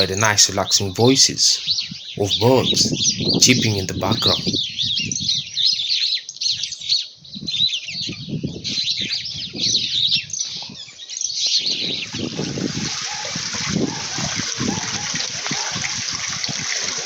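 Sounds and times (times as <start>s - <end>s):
birds chirping and singing: 0.0s - 17.0s.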